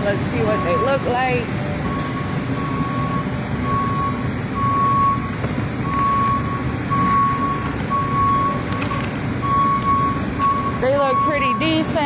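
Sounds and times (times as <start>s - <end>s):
busy store noise: 0.0s - 12.0s
electronic warning beeps: 0.2s - 12.0s.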